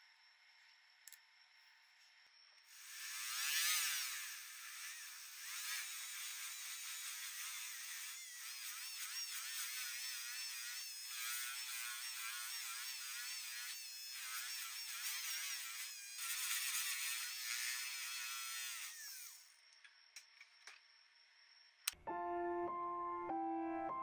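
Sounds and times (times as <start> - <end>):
rotary tool high whine: 0.1 - 22.0.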